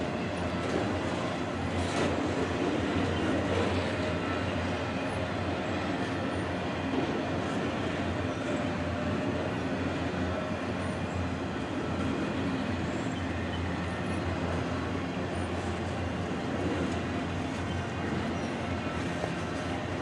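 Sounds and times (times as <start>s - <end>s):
freight train rumbling by: 0.0s - 20.0s.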